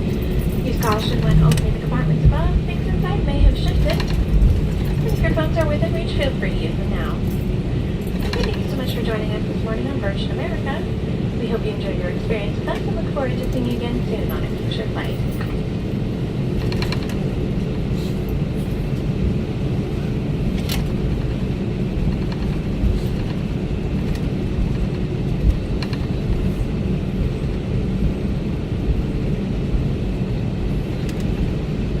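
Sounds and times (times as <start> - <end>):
aircraft cabin low rumble: 0.0 - 32.0.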